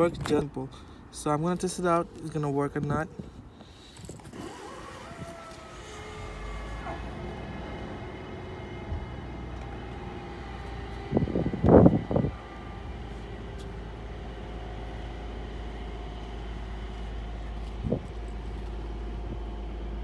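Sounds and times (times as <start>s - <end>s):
car engine idling: 3.3s - 20.0s.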